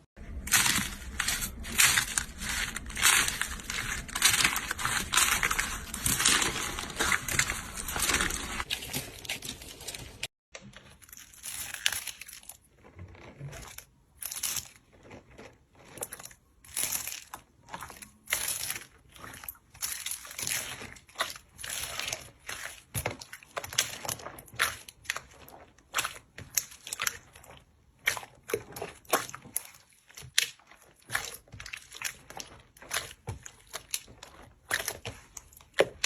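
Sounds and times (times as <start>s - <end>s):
slime squeezed with crinkling crackles: 0.2s - 36.0s.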